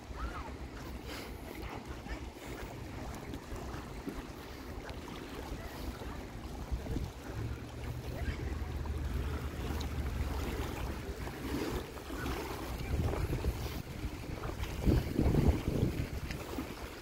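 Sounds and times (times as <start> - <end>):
waves lapping against rocks: 0.0 - 17.0
wind rumbling on microphone: 1.6 - 17.0.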